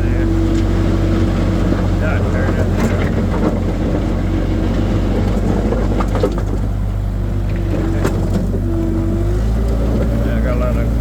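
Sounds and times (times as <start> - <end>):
skid steer engine running: 0.0 - 11.0.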